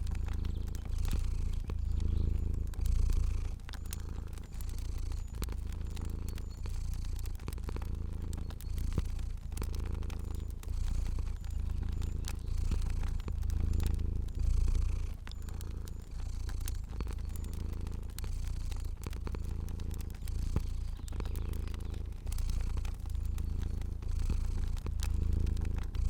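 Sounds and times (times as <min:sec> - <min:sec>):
cat purring: 0:00.0 - 0:26.0
wood fire popping and crackling: 0:00.0 - 0:26.0.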